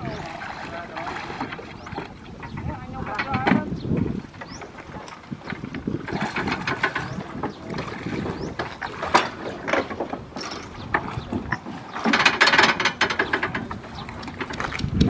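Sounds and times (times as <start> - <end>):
metal clanks and rattles: 1.4 - 15.0.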